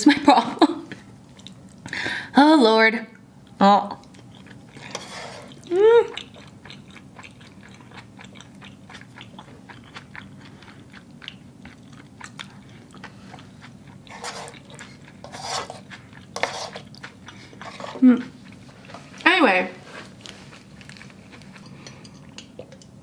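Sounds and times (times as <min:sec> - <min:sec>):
chewing spaghetti: 0:01.3 - 0:01.8, 0:03.4 - 0:19.3, 0:20.0 - 0:23.0.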